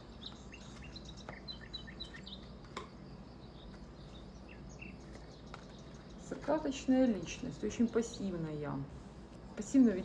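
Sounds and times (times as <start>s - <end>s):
bird chirping: 0.0s - 8.4s.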